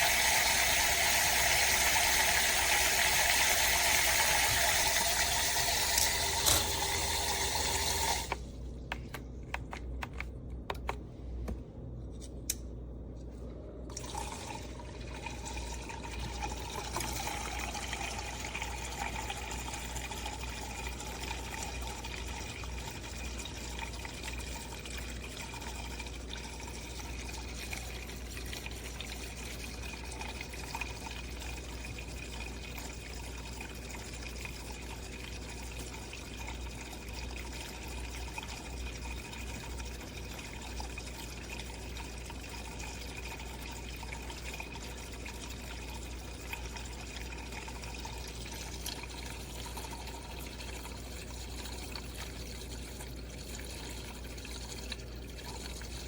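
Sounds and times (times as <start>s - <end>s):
coffee maker water trickling: 0.0s - 8.5s, 13.9s - 56.0s.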